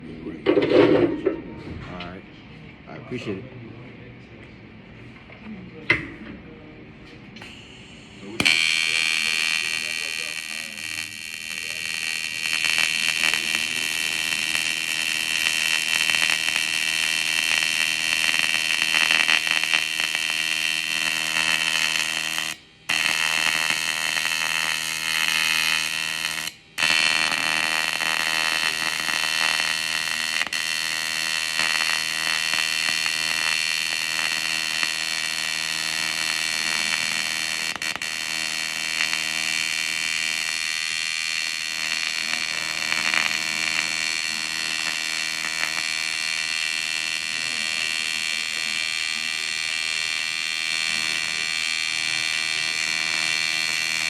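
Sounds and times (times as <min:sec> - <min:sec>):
welding arc buzz: 0:07.4 - 0:54.0.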